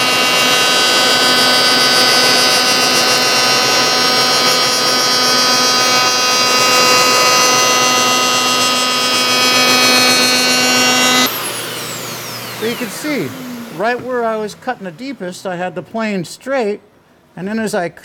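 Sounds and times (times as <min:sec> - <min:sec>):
hiss of wood cutting: 0:00.0 - 0:14.9
power planer whine: 0:00.0 - 0:15.2.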